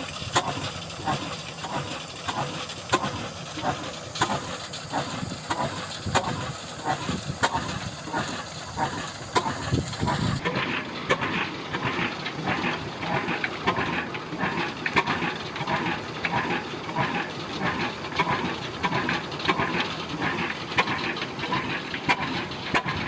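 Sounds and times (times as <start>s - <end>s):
flour mill rushing hiss: 0.0s - 23.0s
stationary diesel engine beating: 0.0s - 23.0s.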